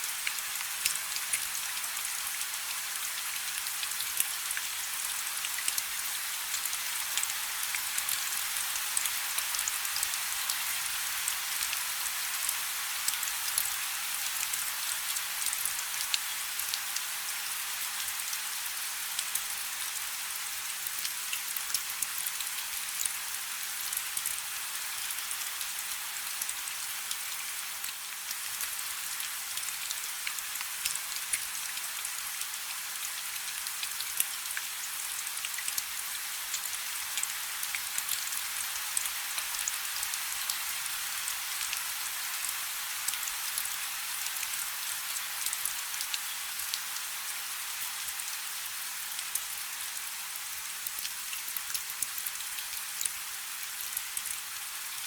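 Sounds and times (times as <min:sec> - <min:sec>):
light rain: 0:00.0 - 0:55.0.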